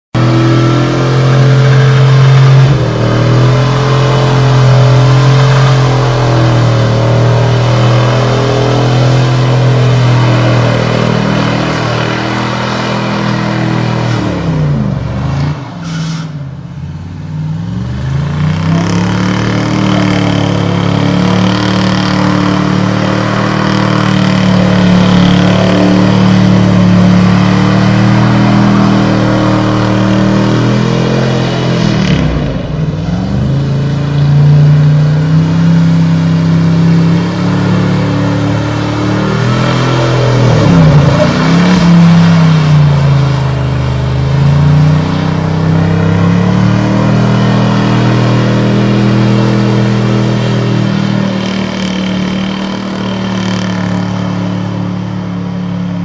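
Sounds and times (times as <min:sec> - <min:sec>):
truck engine revving high: 0:00.1 - 0:56.0
tires spinning: 0:00.2 - 0:56.0.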